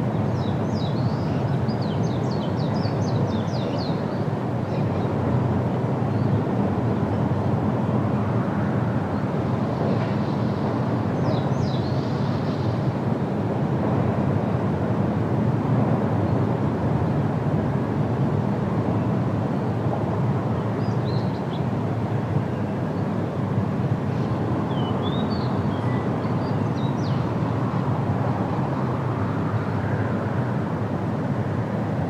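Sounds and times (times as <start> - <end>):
wind rushing through trees: 0.0 - 32.0.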